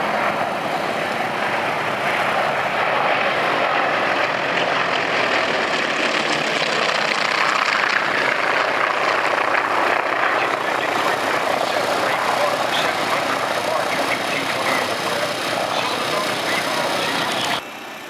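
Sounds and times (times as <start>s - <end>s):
propeller planes droning: 0.0s - 18.0s.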